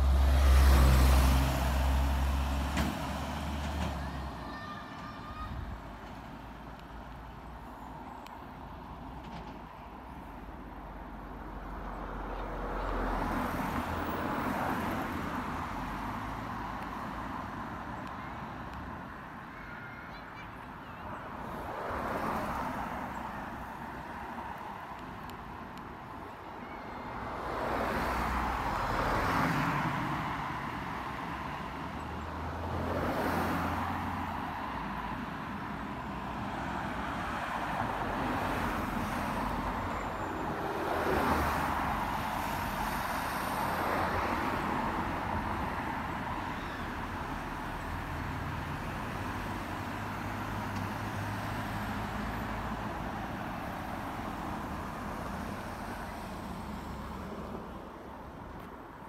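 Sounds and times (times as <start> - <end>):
vehicles driving past: 0.0 - 59.0.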